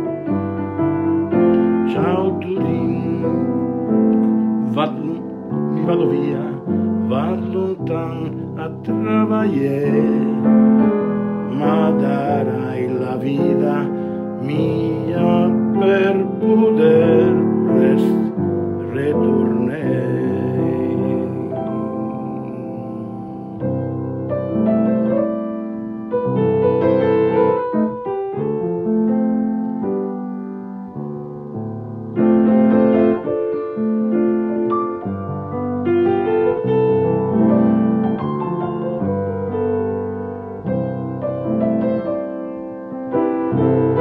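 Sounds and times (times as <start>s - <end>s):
solo piano melody: 0.0s - 44.0s.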